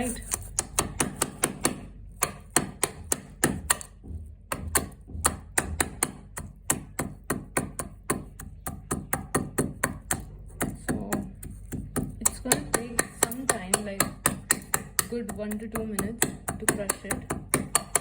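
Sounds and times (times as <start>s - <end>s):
hand crusher pounding knocks: 0.7s - 18.0s.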